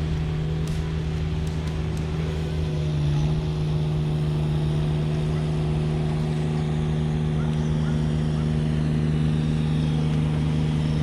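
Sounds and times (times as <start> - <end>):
motor drone: 0.0 - 11.0.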